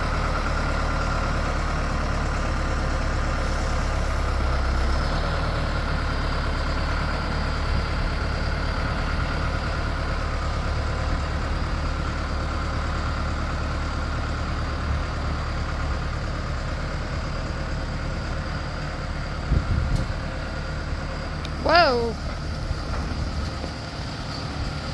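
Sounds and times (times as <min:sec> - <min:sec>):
heavy engine running: 0:00.0 - 0:24.9.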